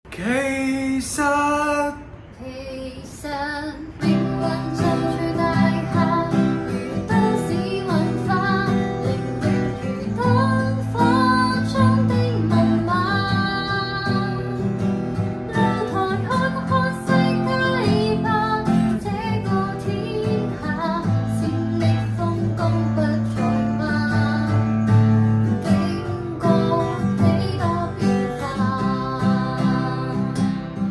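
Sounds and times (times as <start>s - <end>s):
woman singing a ballad: 2.4s - 30.9s
acoustic guitar strummed: 4.0s - 30.9s.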